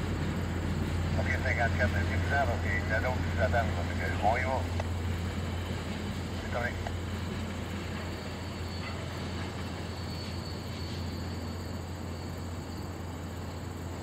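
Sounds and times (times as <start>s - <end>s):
passenger train cars rolling: 0.0s - 14.0s.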